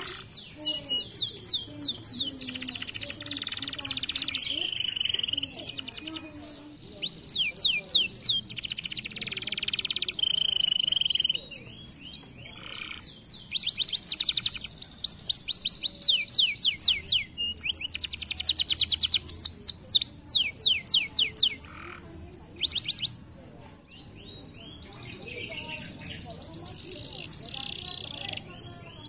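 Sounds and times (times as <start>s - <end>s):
canary singing trills: 0.0s - 23.3s, 23.9s - 29.0s.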